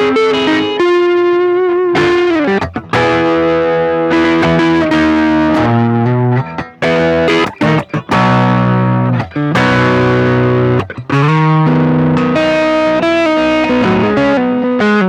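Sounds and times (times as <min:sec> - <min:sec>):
distorted electric guitar notes: 0:00.0 - 0:15.0.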